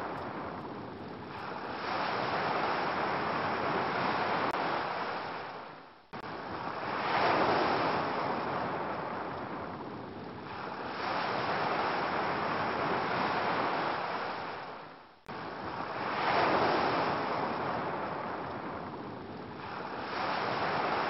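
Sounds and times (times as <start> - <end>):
ocean waves washing onto beach: 0.0 - 21.0.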